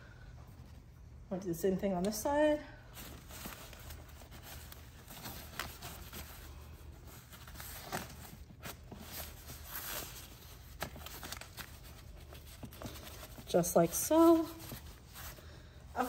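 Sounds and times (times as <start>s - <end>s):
nylon fabric rustling: 2.2s - 16.0s.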